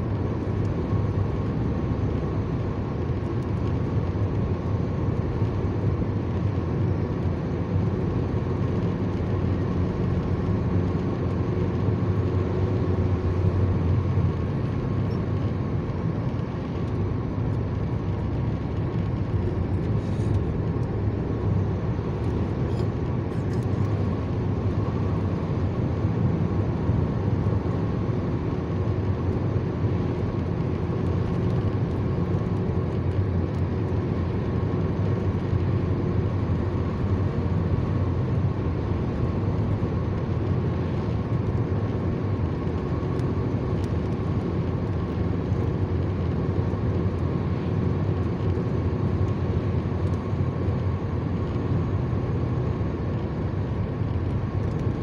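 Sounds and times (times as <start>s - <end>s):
car tyre and engine noise: 0.0s - 55.0s.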